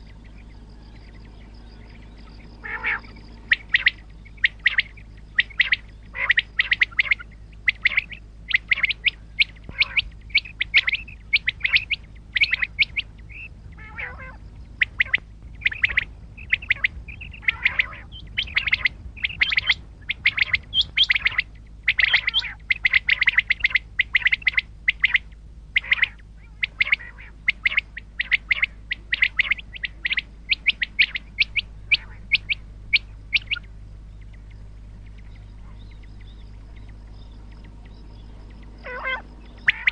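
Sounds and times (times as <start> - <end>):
low steady hum: 0.0 - 39.9
quail calling: 0.0 - 39.9.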